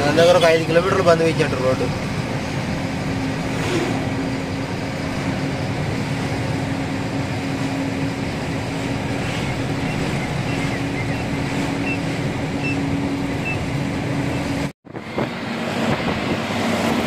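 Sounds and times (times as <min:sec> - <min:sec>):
lorry engine hum: 0:00.0 - 0:17.0
road noise: 0:00.0 - 0:17.0.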